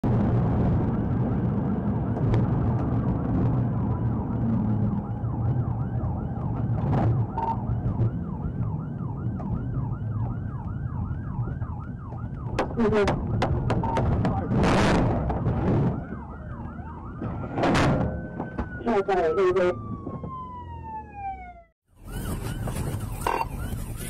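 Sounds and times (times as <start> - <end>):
car engine and tyre noise: 0.0 - 24.0
police yelp siren: 0.6 - 24.0.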